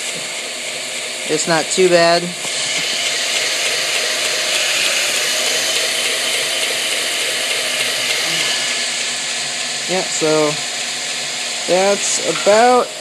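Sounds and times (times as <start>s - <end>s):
belt grinder whirring: 0.0s - 13.0s.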